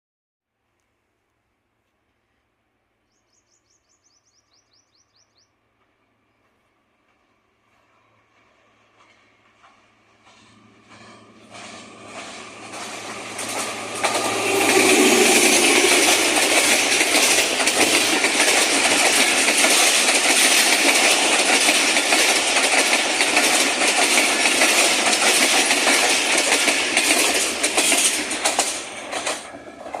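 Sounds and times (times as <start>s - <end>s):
train passing: 4.6s - 30.0s.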